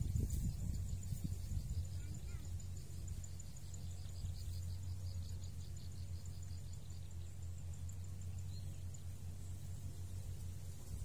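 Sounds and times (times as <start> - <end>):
insects chirping: 0.0 - 11.0
steady low hum: 0.0 - 11.0.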